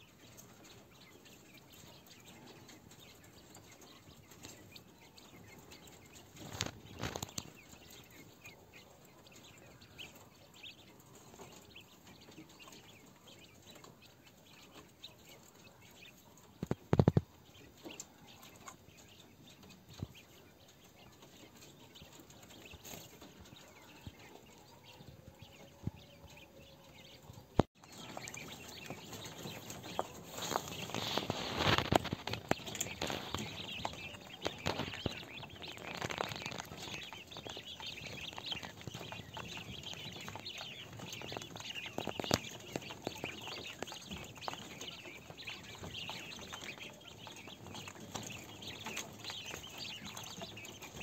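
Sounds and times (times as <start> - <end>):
quail pecking and scratching: 0.0 - 51.0
quail rustling and flapping: 0.0 - 51.0.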